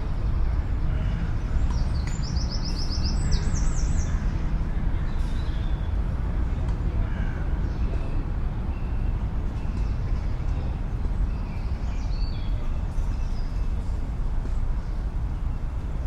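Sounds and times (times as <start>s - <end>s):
distant city traffic drone: 0.0s - 16.0s.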